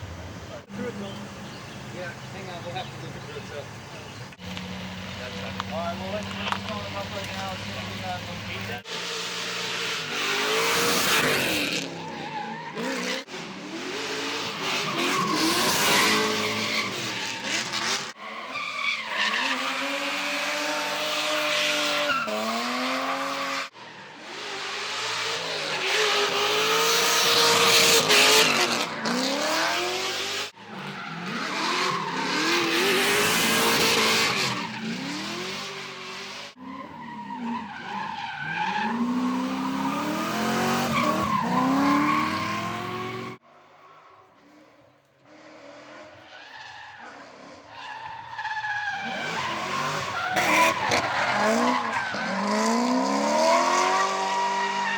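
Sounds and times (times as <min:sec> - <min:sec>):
car engines revving: 0:00.0 - 0:54.9
tyres squealing and skidding: 0:00.6 - 0:54.9.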